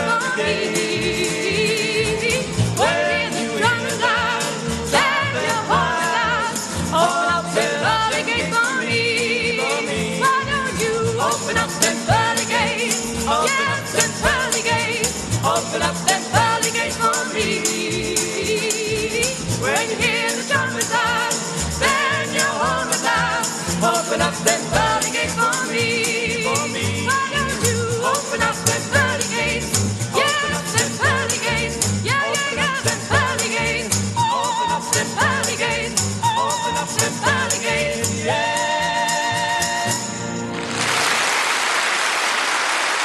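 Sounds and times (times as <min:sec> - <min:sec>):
woman singing with vibrato: 0:00.0 - 0:40.1
plucked double bass: 0:00.0 - 0:40.6
tambourine: 0:00.0 - 0:40.6
folk group singing: 0:00.0 - 0:40.8
strummed acoustic guitars: 0:00.0 - 0:40.8.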